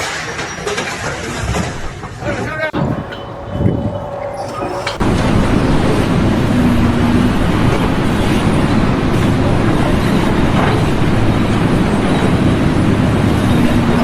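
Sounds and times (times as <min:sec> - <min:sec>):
loud mechanical rumble: 0:01.2 - 0:14.0.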